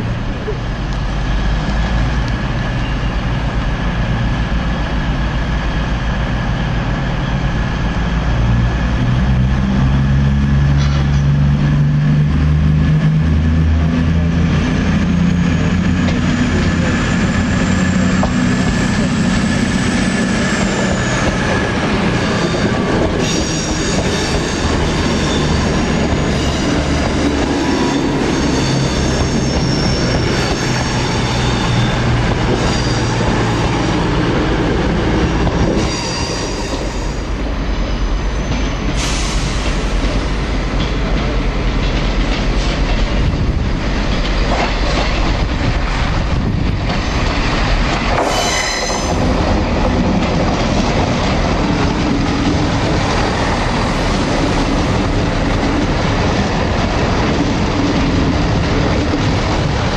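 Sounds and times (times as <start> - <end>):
diesel train engines droning: 0.0 - 59.9.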